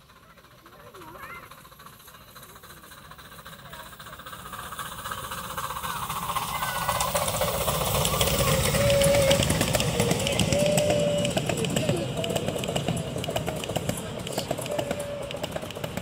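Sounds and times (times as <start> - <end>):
steam locomotive passing: 0.0 - 16.0
wheels clattering over track: 0.0 - 16.0.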